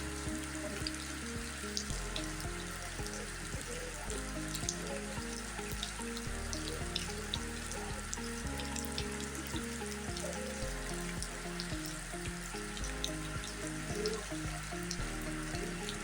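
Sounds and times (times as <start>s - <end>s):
background music with held notes: 0.0s - 16.0s.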